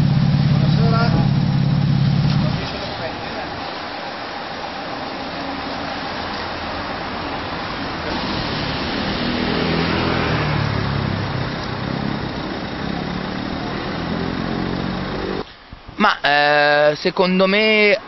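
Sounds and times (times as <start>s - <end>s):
car engine running at low revs: 0.0s - 16.0s
street traffic hiss: 0.0s - 18.0s.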